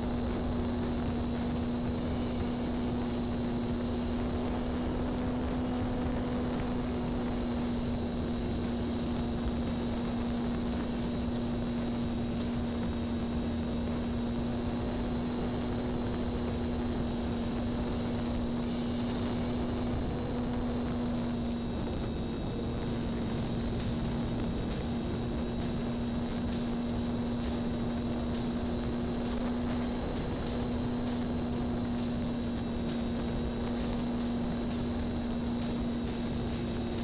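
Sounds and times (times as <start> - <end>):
electric motor and propeller hum: 0.0 - 37.0
rushing air noise: 0.0 - 37.0.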